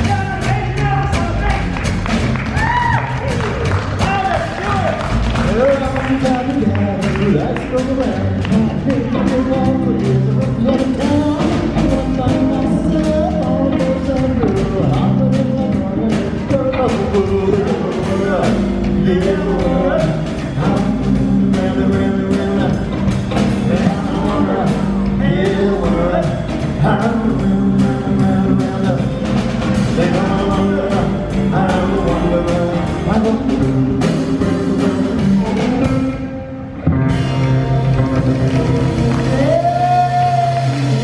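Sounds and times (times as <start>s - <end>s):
live rock and roll band: 0.0s - 41.0s
lead singer singing: 2.6s - 37.2s, 37.8s - 41.0s.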